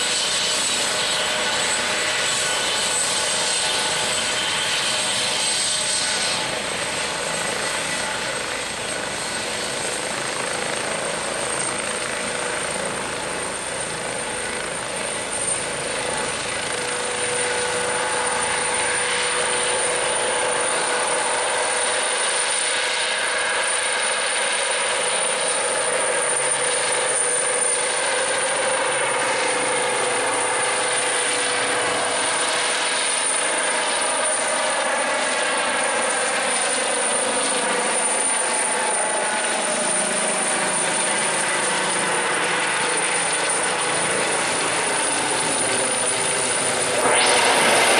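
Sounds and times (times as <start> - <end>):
helicopter rotor noise: 0.0 - 47.9
helicopter turbine whine: 0.0 - 47.9.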